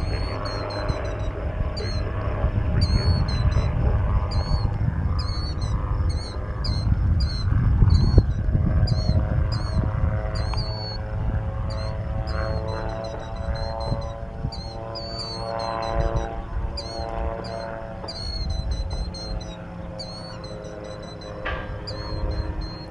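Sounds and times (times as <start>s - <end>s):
gusty low rumble: 0.0s - 22.9s
gyroplane engine droning overhead: 0.0s - 22.9s.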